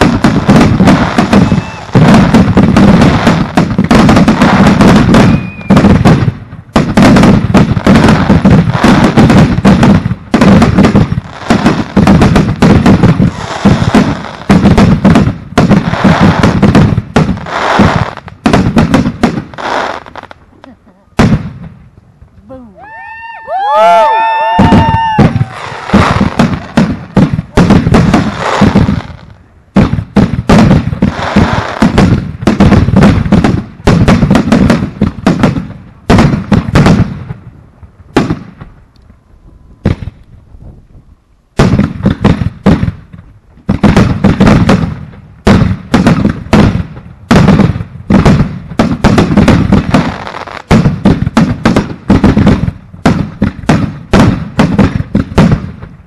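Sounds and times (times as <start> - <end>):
fireworks bangs and pops: 0.0 - 22.6, 23.5 - 39.2, 39.8 - 56.0.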